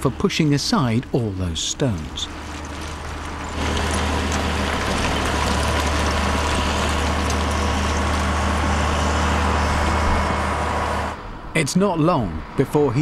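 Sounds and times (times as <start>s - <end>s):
diesel engine running: 0.0s - 12.7s.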